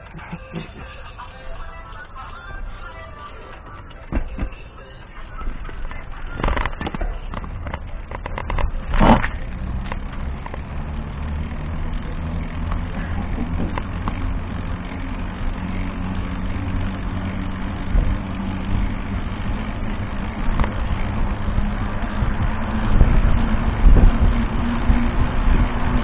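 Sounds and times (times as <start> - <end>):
road noise: 0.0 - 26.0
vehicle engine running: 0.0 - 26.0.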